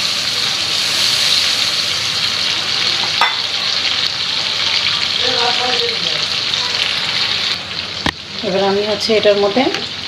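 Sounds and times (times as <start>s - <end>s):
prawns sizzling in a frying pan: 0.0s - 10.0s.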